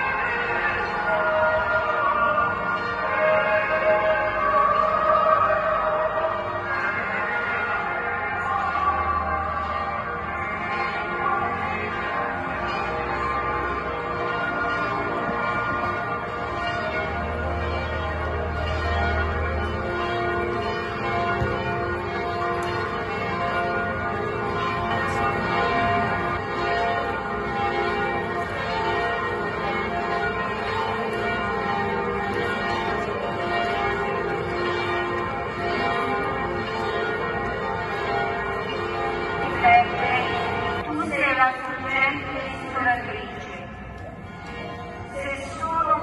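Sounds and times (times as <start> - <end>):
church bells pealing: 0.0 - 46.0.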